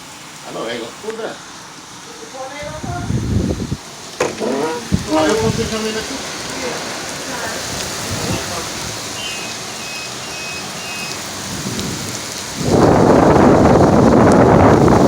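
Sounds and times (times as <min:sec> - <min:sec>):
steady rain falling: 0:00.0 - 0:15.0
rush of storm noise: 0:02.6 - 0:15.0.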